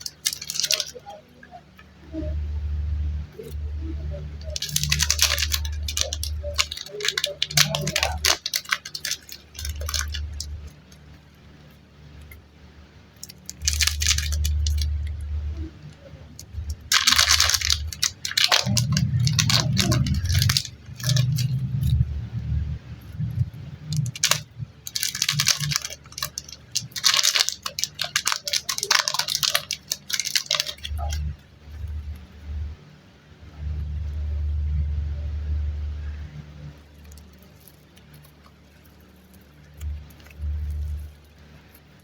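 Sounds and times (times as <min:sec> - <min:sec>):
plastic packaging crinkling: 0:00.0 - 0:02.4, 0:03.0 - 0:32.8, 0:36.6 - 0:42.0.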